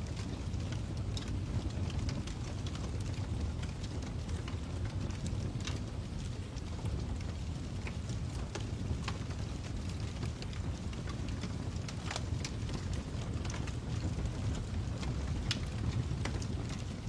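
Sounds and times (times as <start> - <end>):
fire crackling: 0.1 - 17.0.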